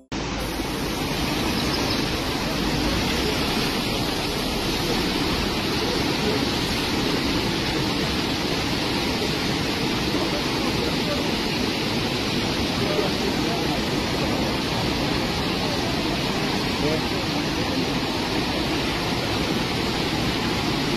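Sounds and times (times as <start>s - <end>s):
floodwater rushing: 0.0s - 20.9s.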